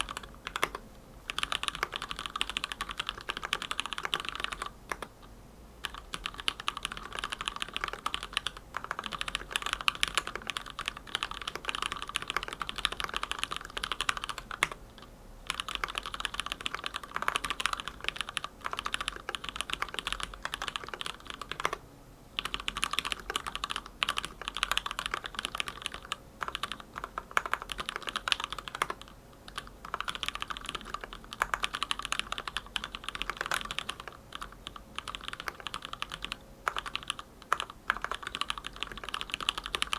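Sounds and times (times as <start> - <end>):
mechanical keyboard typing: 0.0 - 5.1, 5.8 - 21.8, 22.4 - 39.9.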